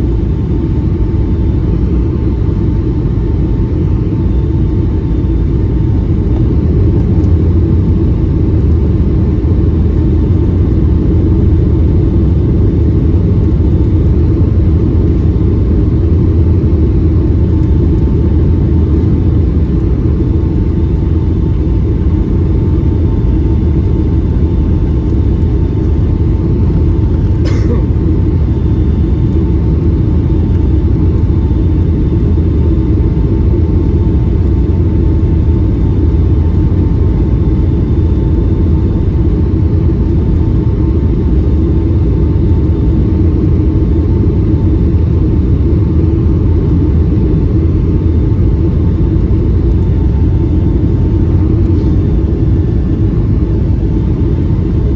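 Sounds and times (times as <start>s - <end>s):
faint steady hum: 0.0s - 54.9s
jet engines rumbling: 0.0s - 54.9s.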